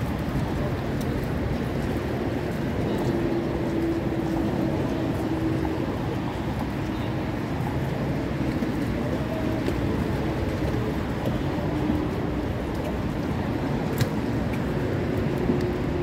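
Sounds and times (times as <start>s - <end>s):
low rumble of train station: 0.0s - 16.0s
train humming tone: 0.0s - 16.0s.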